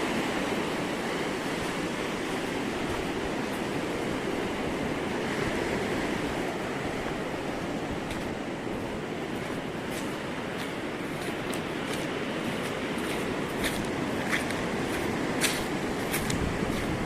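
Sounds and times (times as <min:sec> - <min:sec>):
waves washing onto beach: 0:00.0 - 0:17.0.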